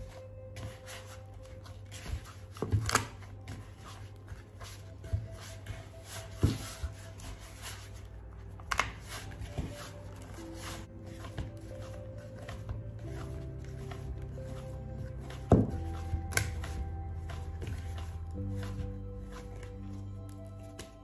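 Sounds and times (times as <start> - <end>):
hands kneading dough: 0.0 - 21.0.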